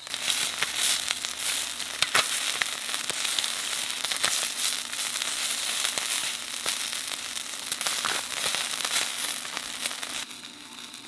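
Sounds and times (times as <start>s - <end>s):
fire crackling and popping: 0.0s - 11.0s
meat sizzling on a grill: 0.0s - 11.0s.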